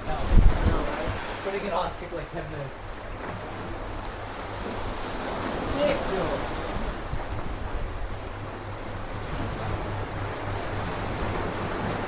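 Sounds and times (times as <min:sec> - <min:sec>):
sea surf washing on shore: 0:00.0 - 0:12.0
wind buffeting microphone: 0:00.0 - 0:12.0.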